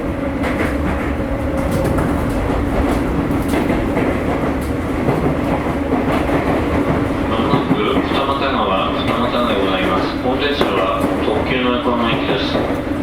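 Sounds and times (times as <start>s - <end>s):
train rumble and low hum: 0.0s - 13.0s
wheels clicking over rail joints: 0.4s - 12.9s.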